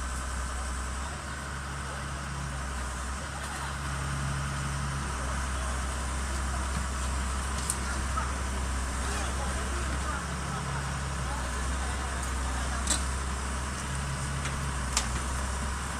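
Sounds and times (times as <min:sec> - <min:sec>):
excavator diesel engine idling: 0:00.0 - 0:15.9.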